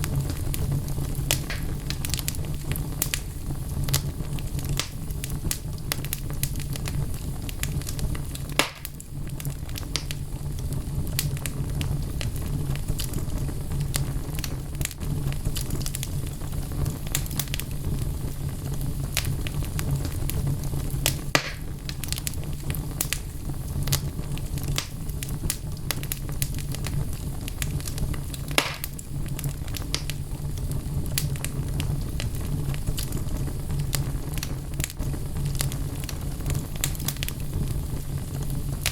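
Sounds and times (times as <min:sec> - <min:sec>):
logs crackling and popping: 0:00.0 - 0:38.9
low rumble of flames: 0:00.0 - 0:38.9.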